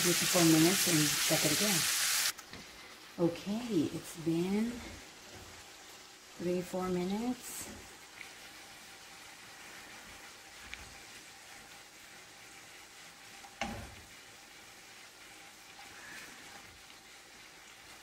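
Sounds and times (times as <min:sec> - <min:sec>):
food sizzling in pan: 0:00.0 - 0:18.0.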